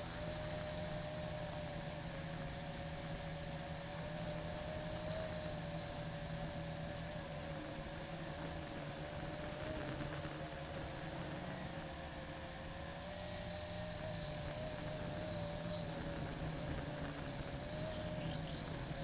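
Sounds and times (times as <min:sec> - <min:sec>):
quadcopter propellers whirring: 0:00.0 - 0:19.0.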